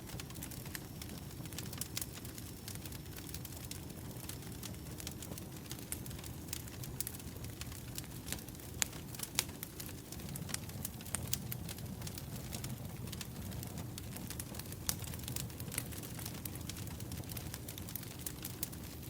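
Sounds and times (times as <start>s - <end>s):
firewood crackling: 0.0s - 19.0s.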